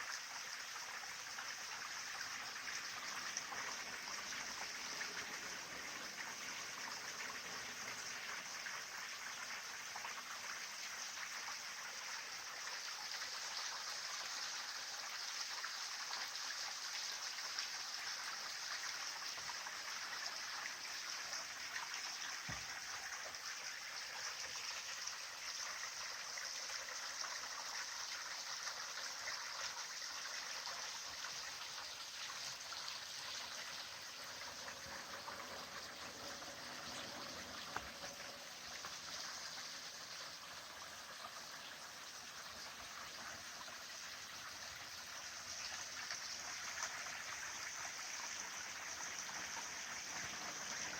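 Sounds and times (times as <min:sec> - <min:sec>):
stream flowing: 0:00.0 - 0:50.9.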